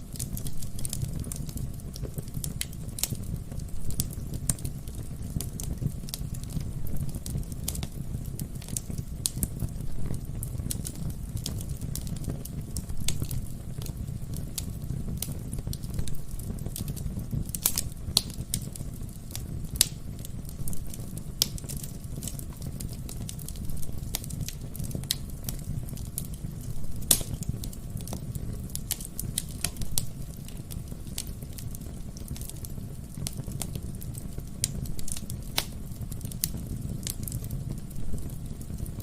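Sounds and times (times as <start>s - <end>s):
logs crackling and popping: 0.0s - 39.0s
low rumble of flames: 0.0s - 39.0s.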